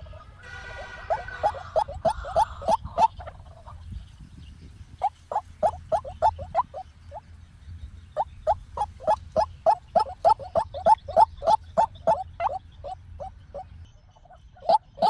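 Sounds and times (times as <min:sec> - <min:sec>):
waterhen calling repeated notes: 0:00.0 - 0:03.8, 0:05.0 - 0:07.2, 0:08.2 - 0:15.0.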